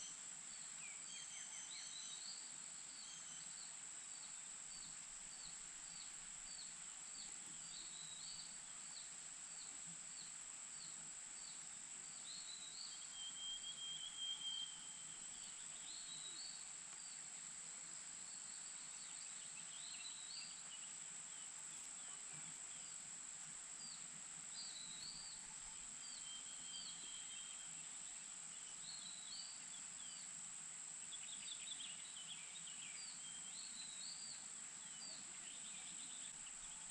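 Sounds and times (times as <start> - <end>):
insect drone: 0.0 - 36.9.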